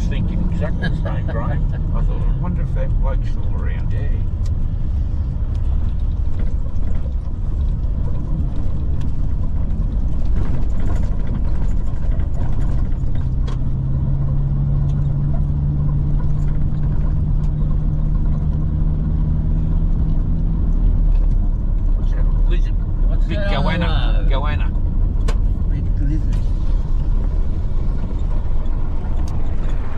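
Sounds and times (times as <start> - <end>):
car engine and road noise: 0.0 - 29.9
faint rattles and clicks: 2.8 - 23.0, 24.4 - 29.9.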